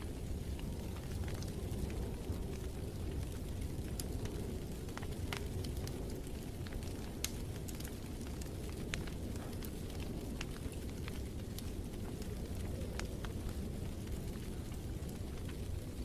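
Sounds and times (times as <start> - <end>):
fire crackling and popping: 0.0 - 16.0
low rumble of burning: 0.0 - 16.0.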